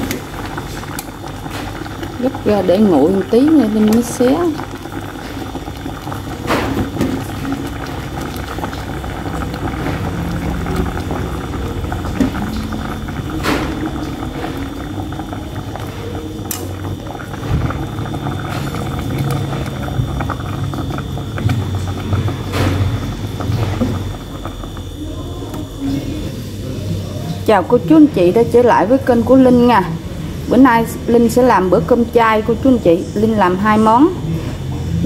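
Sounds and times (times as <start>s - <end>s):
water boiling in a pot: 0.0s - 35.0s.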